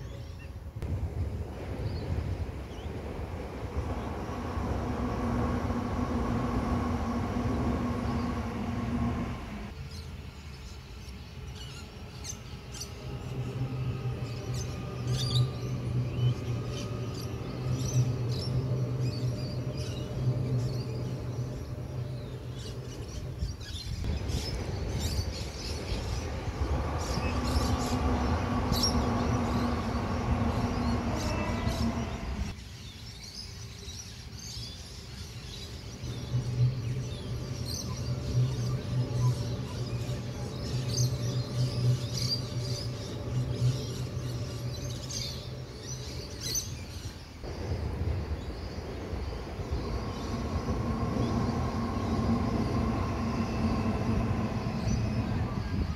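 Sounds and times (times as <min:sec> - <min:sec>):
train engine drone: 0:00.0 - 0:55.9
high rising whine: 0:00.8 - 0:10.0, 0:11.0 - 0:32.6, 0:34.7 - 0:55.9
birds chirping: 0:01.3 - 0:55.9.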